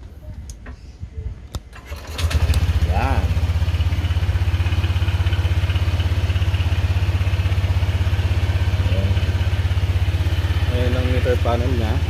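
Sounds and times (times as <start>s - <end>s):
scooter engine idling: 1.8s - 12.0s.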